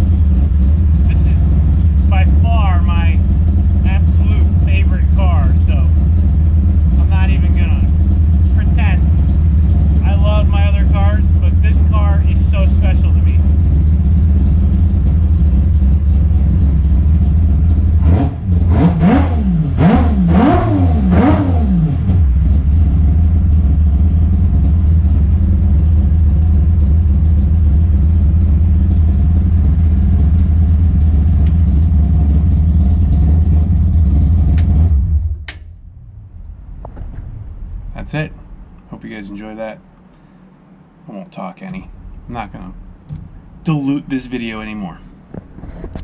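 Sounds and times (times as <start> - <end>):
rotary engine idling and revving: 0.0 - 46.0.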